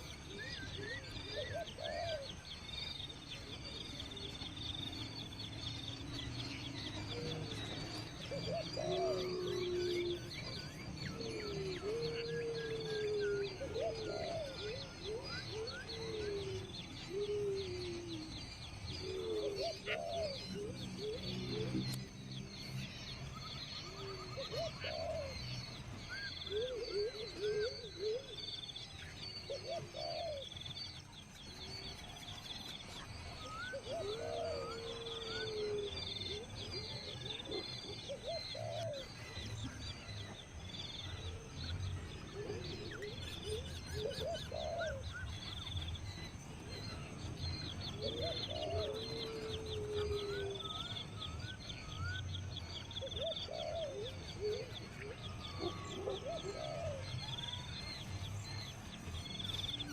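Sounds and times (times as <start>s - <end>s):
birds calling low arching notes: 0.0s - 59.9s.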